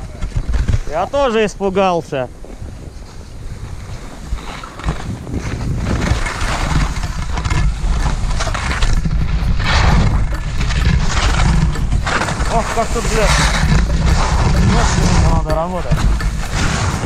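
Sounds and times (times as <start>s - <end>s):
ski edges scraping snow: 0.0s - 17.0s
wind buffeting microphone: 0.0s - 17.0s.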